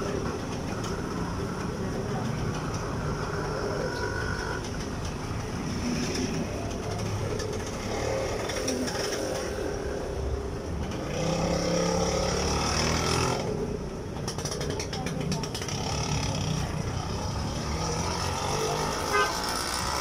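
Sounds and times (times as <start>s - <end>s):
road traffic engines: 0.0s - 20.0s.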